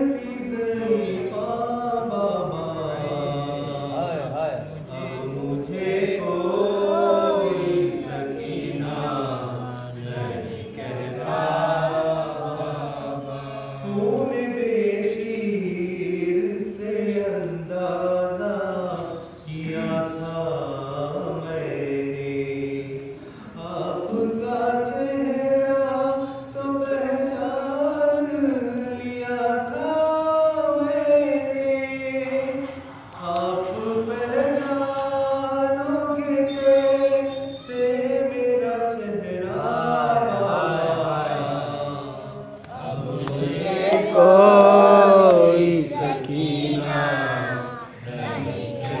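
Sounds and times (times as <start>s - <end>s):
man singing into a microphone: 0.0s - 7.9s, 13.5s - 42.6s, 44.2s - 48.0s
voices chanting held notes: 0.0s - 17.3s, 18.4s - 49.0s.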